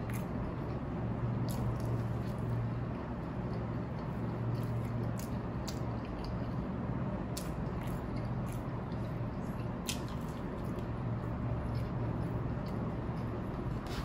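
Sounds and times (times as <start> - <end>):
chewing crisp bread: 0.0 - 14.0
steady low hum: 0.0 - 14.0.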